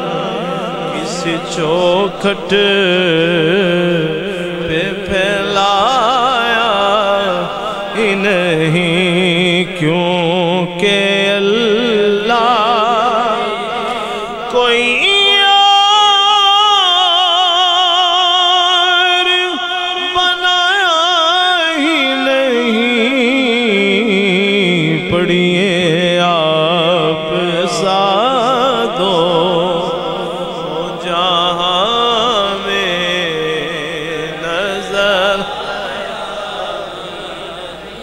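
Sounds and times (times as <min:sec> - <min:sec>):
man singing unaccompanied: 0:00.0 - 0:38.0.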